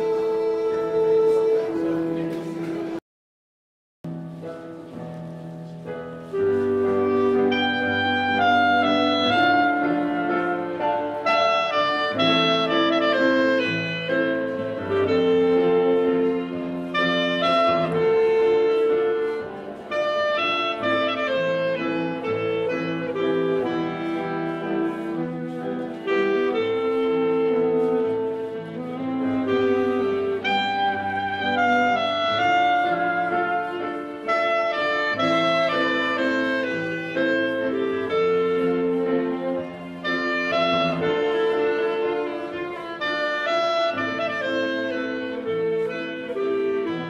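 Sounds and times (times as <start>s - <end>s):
dance band playing a waltz: 0.0s - 3.0s, 4.1s - 47.0s.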